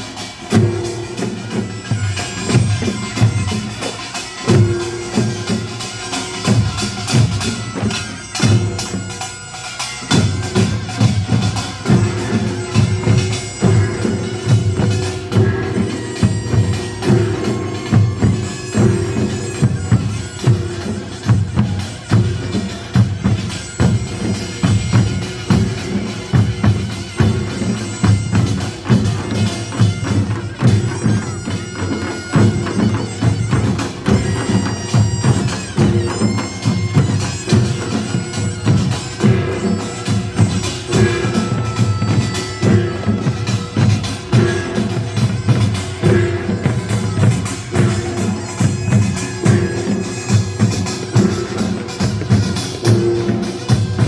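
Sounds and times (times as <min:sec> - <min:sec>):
drums and gongs beating: 0:00.0 - 0:54.0
nasal shawm melody: 0:00.0 - 0:54.0.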